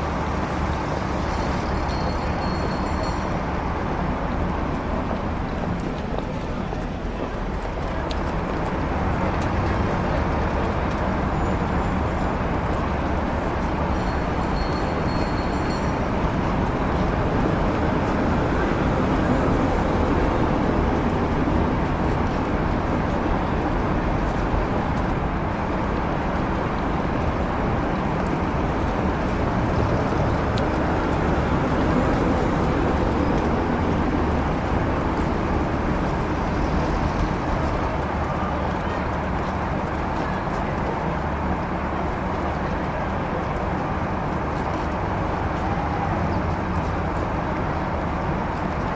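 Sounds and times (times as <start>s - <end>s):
motor traffic: 0.0s - 48.9s
street bustle: 0.0s - 48.9s.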